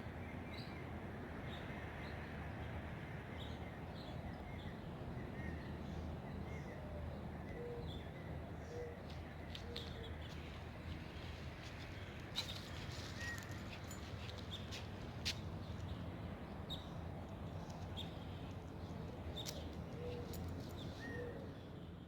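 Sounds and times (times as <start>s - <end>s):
outdoor background noise: 0.0s - 22.0s
birds chirping: 3.4s - 21.8s.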